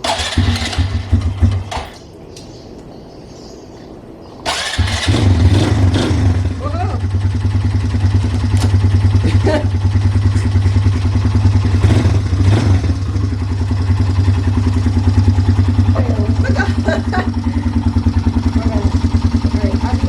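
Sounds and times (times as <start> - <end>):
quad engine idling: 0.0 - 2.2, 4.4 - 20.0.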